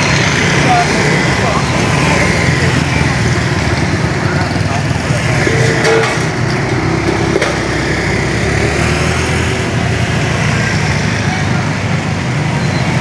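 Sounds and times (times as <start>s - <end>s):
motorbike engine running: 0.0s - 12.1s
street traffic hum: 0.0s - 13.0s.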